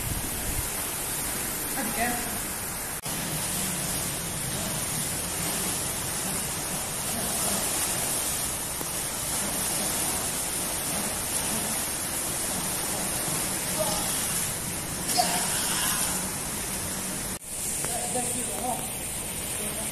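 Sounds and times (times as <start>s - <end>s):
pool water splashing: 0.0s - 19.9s.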